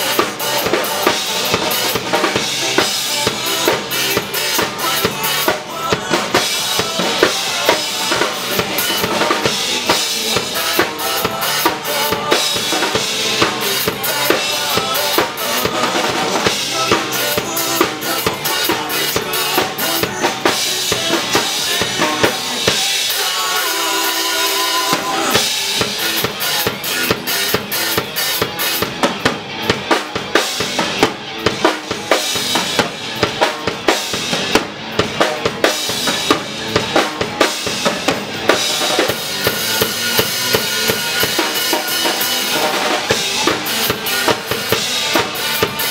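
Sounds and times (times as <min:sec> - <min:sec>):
acoustic drum kit playing: 0:00.0 - 0:45.9
pop-rock backing track: 0:00.0 - 0:45.9.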